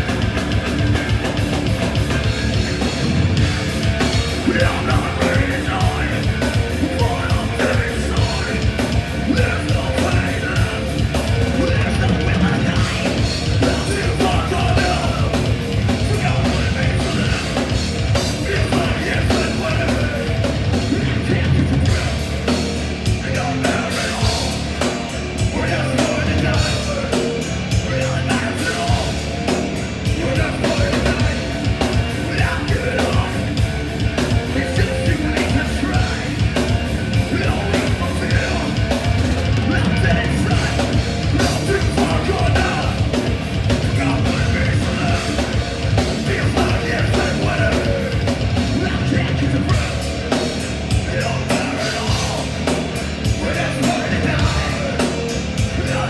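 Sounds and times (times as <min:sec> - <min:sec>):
heavy metal band playing live: 0:00.0 - 0:56.0
pounding drum kit: 0:00.0 - 0:56.0
yelled vocals: 0:00.0 - 0:56.0.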